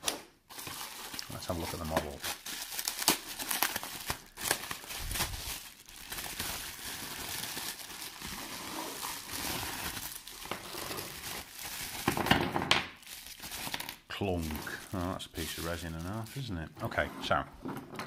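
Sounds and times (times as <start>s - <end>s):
bubble wrap crinkling: 0.0s - 16.7s.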